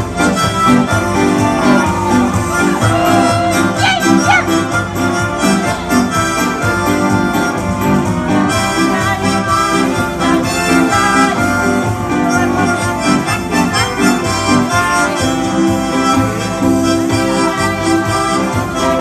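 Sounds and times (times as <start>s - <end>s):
acoustic guitar: 0.0s - 19.0s
harmonica melody: 0.0s - 19.0s
keyboard: 0.0s - 19.0s.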